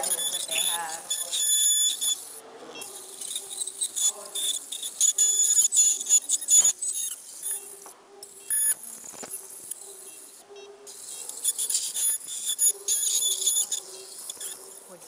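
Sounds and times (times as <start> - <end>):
dental scaler whine: 0.0 - 15.0.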